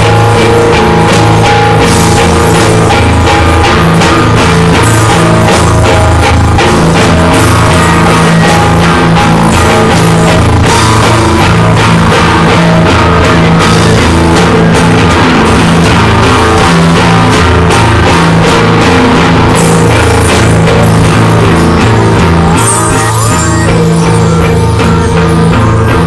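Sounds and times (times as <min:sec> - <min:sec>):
loud rock music: 0:00.0 - 0:26.0.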